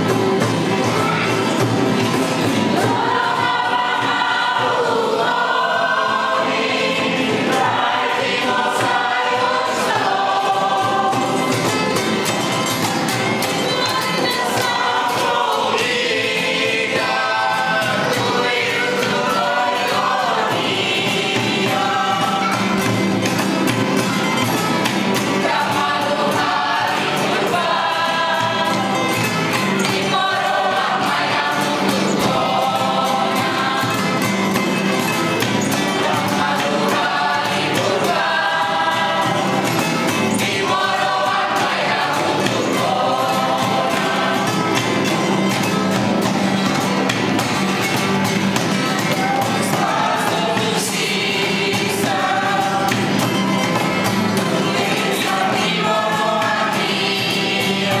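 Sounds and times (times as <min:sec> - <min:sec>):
acoustic guitars: 0:00.0 - 0:58.0
choir singing: 0:00.0 - 0:58.0.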